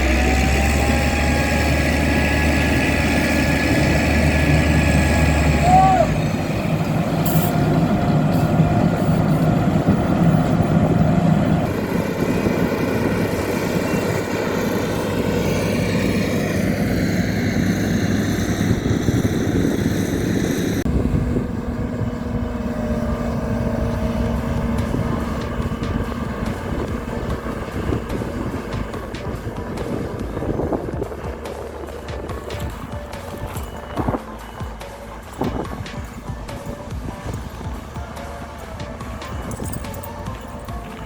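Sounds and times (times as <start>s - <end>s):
heavy machinery engines running: 0.0s - 41.0s.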